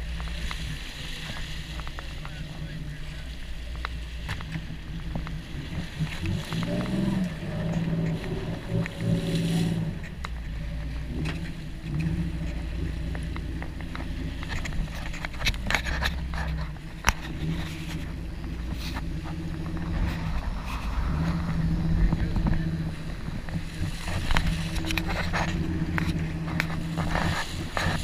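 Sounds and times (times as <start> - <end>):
boat engines running: 0.0 - 28.0
wind and water rushing: 0.0 - 28.0.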